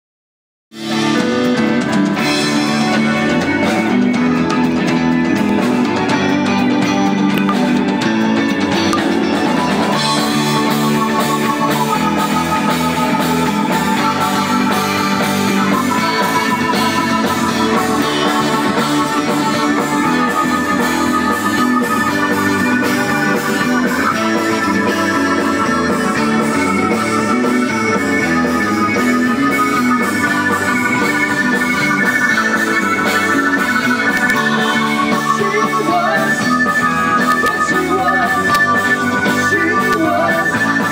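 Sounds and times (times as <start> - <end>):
electric guitar: 0.7 - 40.9
rock band playing: 0.7 - 40.9
drum kit beat: 0.9 - 40.9.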